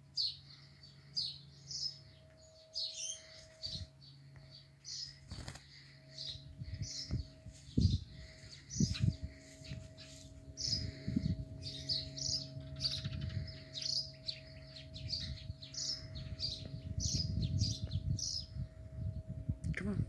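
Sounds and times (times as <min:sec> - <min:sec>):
small birds chirping: 0:00.0 - 0:20.0
low rumbles: 0:01.9 - 0:20.0.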